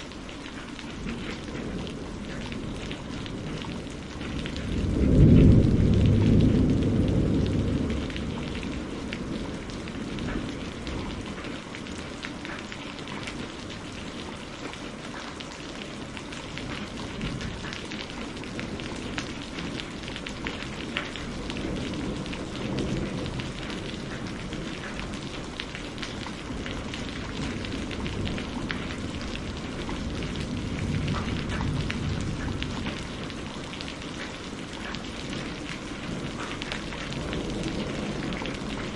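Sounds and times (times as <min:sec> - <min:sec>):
thunder rumbling: 0:00.0 - 0:12.2, 0:15.8 - 0:38.9
steady rain falling: 0:00.0 - 0:38.9.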